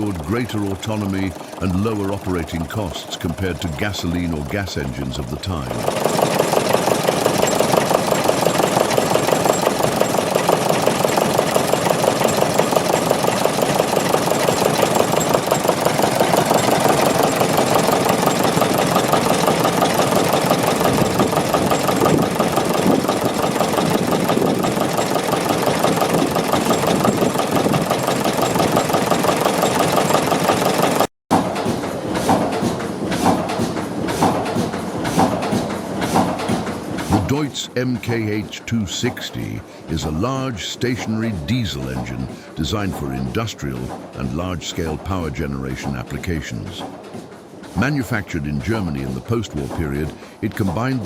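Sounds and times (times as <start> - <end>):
diesel engine with rapid beat: 0.0 - 51.0
engine with slower beats: 0.0 - 51.0.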